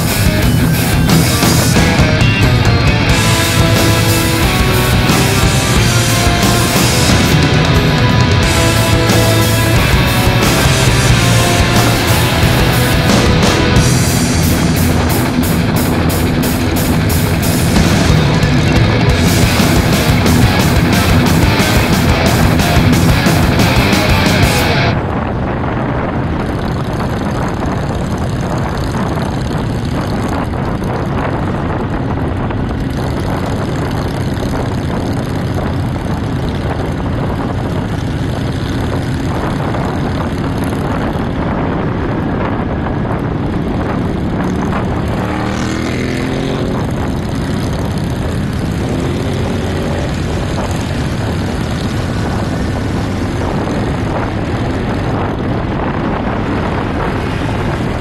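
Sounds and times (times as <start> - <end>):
motorcycle engines running: 0.0 - 58.0
wind and road noise: 0.0 - 58.0.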